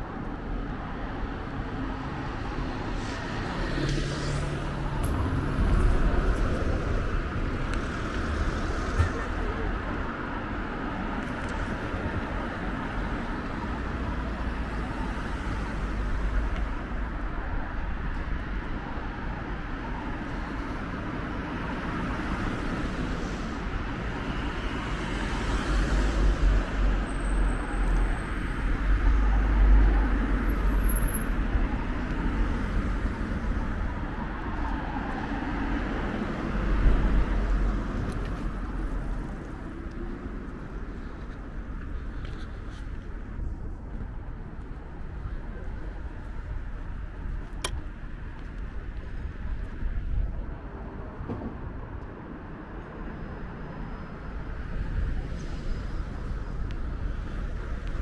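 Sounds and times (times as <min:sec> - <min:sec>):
road traffic rumbling: 0:00.0 - 0:58.0.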